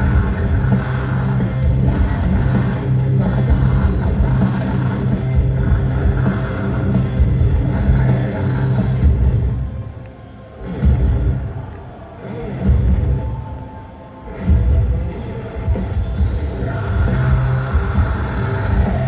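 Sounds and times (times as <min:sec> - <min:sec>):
metalcore band playing live: 0:00.0 - 0:19.0.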